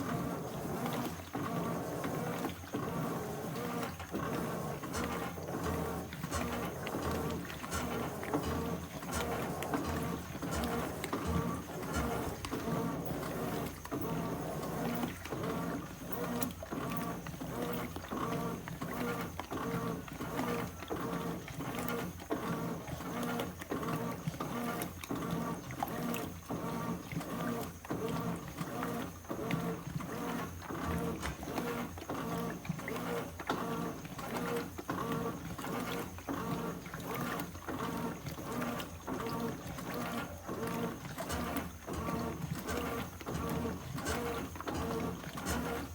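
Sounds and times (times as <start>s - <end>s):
agitator churning: 0.0s - 45.9s
washing machine motor hum: 0.0s - 45.9s
water sloshing: 0.0s - 45.9s.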